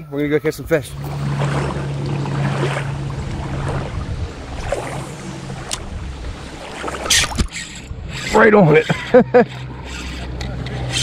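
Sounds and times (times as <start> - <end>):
water around kayak hull: 0.0 - 11.0
steady low hum: 0.4 - 11.0.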